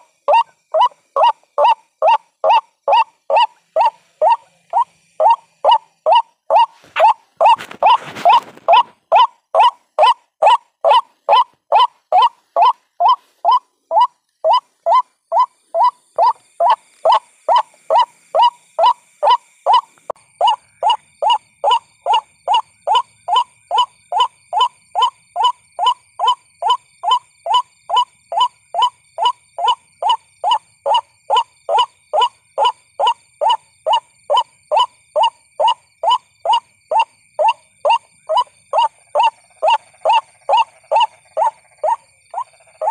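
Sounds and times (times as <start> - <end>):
waterhen call: 0.0 - 42.9.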